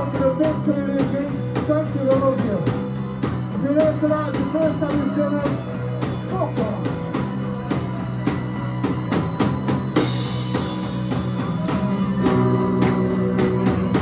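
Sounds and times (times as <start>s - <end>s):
bass guitar notes: 0.0s - 14.0s.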